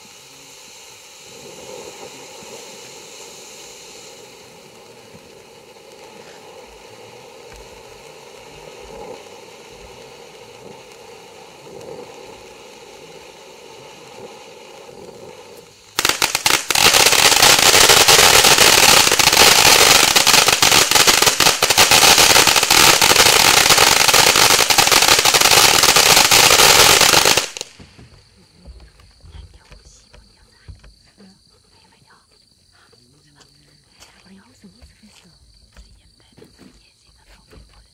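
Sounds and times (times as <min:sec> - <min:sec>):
firework crackling pops: 0:00.0 - 0:31.1
firework fountain hissing: 0:00.0 - 0:35.1.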